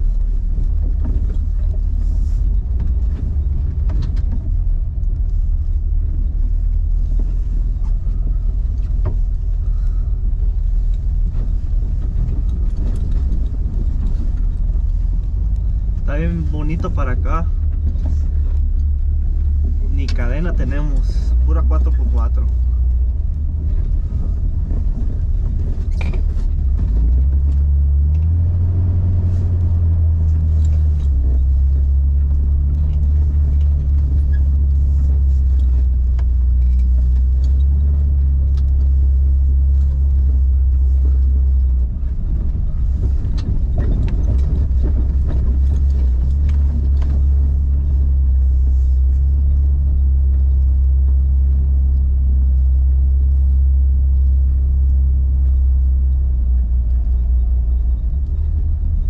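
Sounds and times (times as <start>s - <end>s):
car engine running: 0.0s - 59.0s
vehicle knocks and rattles: 0.0s - 59.0s.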